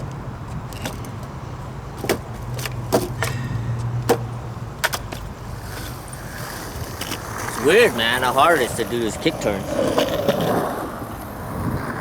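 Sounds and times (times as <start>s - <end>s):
skateboard rolling on concrete: 0.0s - 12.0s
skateboard wheels clacking: 0.0s - 12.0s.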